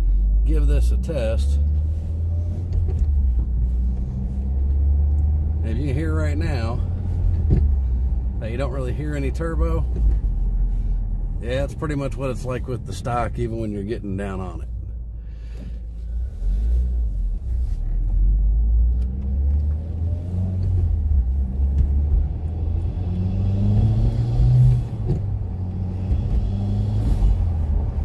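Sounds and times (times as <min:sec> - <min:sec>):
car engine accelerating: 0:00.0 - 0:14.7, 0:15.6 - 0:28.0.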